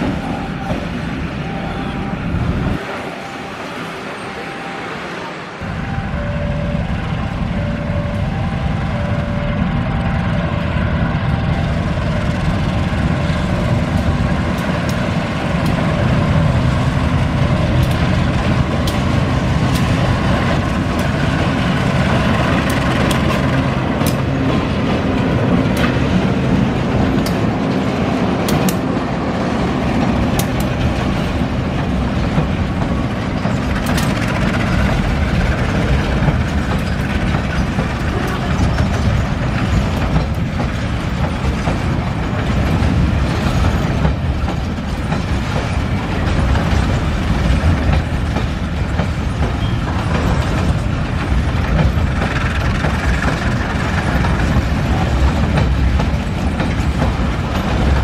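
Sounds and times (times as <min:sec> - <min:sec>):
diesel locomotive engine: 0:00.0 - 0:58.0
train wheels clicking on rail joints: 0:05.8 - 0:58.0.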